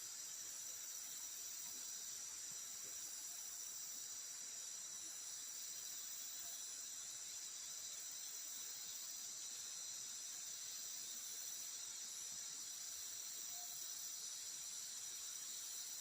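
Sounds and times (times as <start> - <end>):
forest insects chirring: 0.0 - 16.0.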